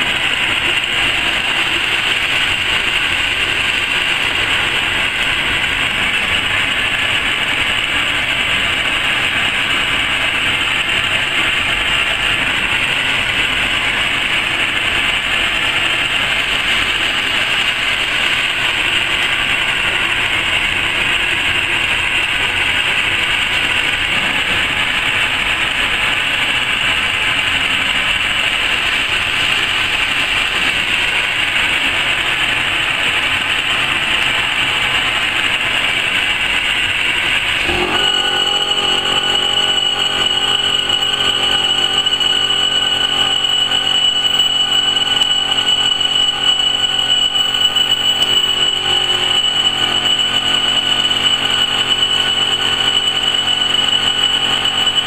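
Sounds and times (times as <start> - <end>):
laser cutting machine running: 0.0 - 55.0.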